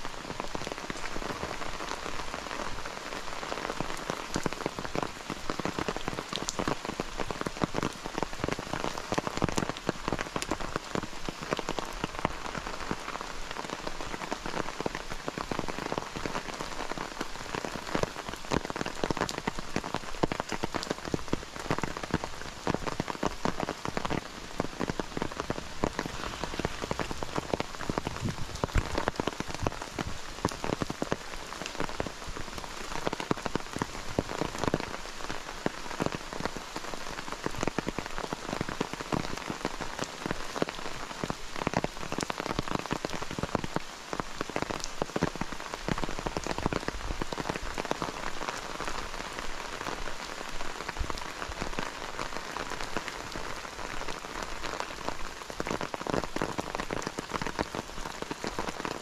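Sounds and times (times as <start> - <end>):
rain hiss: 0.0 - 59.0
raindrops striking sharply: 0.0 - 59.0.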